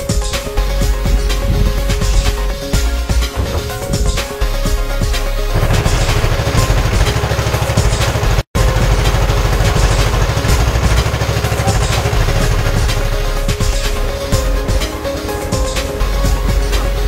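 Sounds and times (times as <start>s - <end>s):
boat engine knocking and droning: 0.0s - 17.0s.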